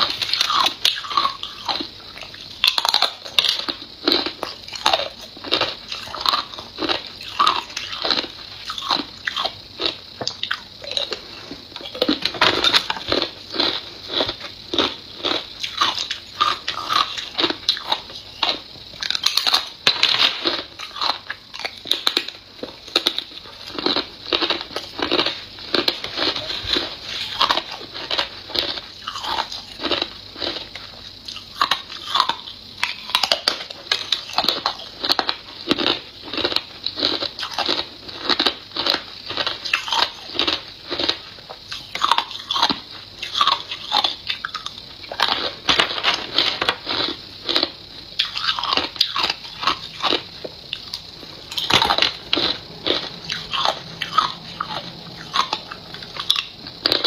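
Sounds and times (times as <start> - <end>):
person chewing ice: 0.0 - 57.0.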